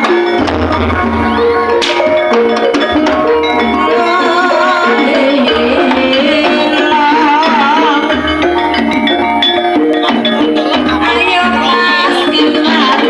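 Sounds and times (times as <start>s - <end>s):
percussion-led music over speakers: 0.0s - 13.0s.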